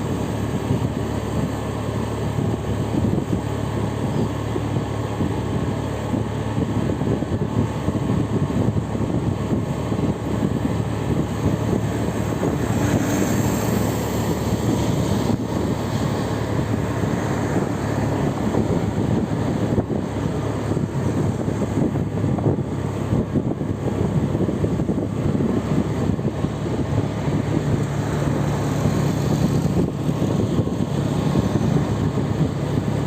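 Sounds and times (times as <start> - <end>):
moving vehicle rumble: 0.0 - 33.0.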